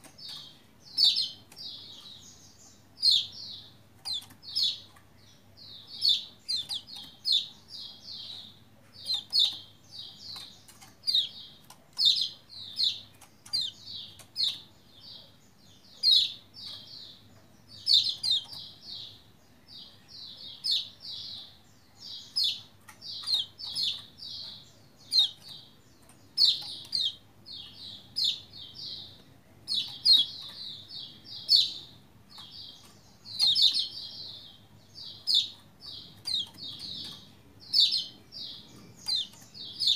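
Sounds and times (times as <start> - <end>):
bird singing high chirps: 0.0 - 19.2, 19.8 - 39.9.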